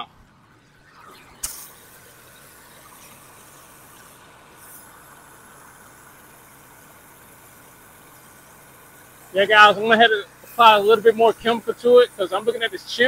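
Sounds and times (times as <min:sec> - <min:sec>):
pressure washer spraying water: 0:00.0 - 0:13.0.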